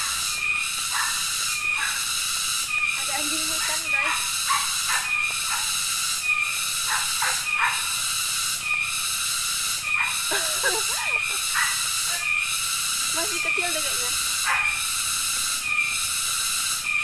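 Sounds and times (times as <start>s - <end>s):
forest insects droning: 0.0s - 17.0s.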